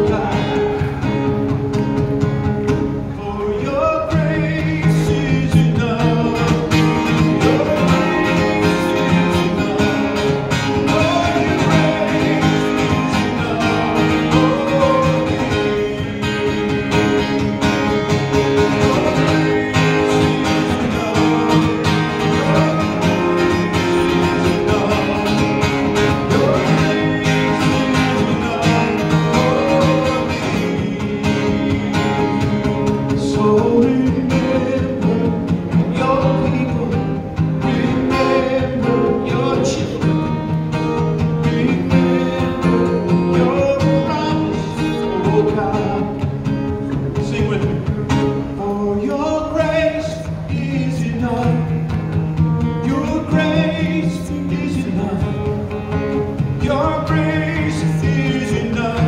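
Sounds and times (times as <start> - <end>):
man singing: 0.0 - 1.6, 3.0 - 59.0
acoustic guitar strumming: 0.0 - 59.0.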